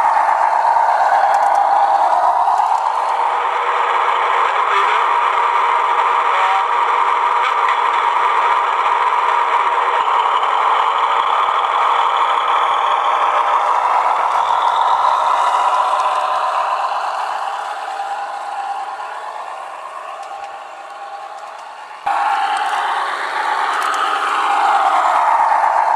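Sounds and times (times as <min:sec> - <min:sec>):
diesel engine sound from small loudspeaker: 0:00.0 - 0:25.9.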